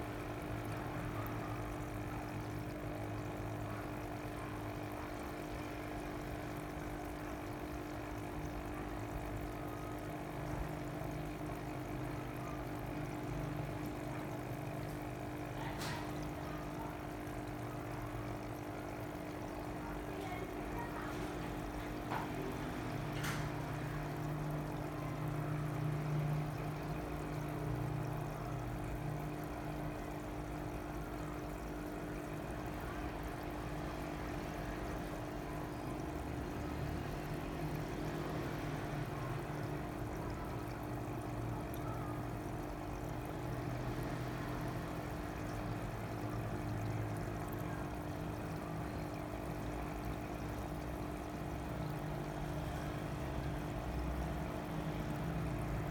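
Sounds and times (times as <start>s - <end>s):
pump humming: 0.0s - 55.9s
water pouring and trickling: 0.0s - 55.9s.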